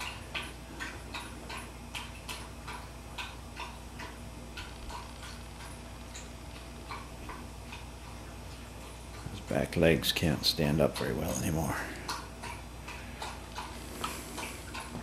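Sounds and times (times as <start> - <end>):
dog eating from metal bowl: 0.0 - 15.0.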